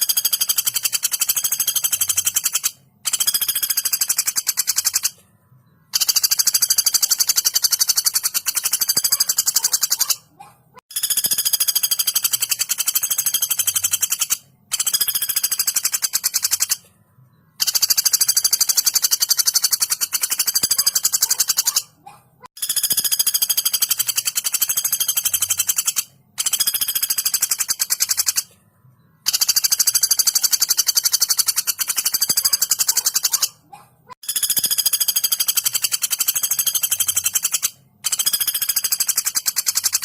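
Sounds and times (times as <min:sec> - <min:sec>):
woodpecker rattling trills: 0:00.0 - 0:05.2, 0:05.9 - 0:16.9, 0:17.5 - 0:28.6, 0:29.2 - 0:40.0.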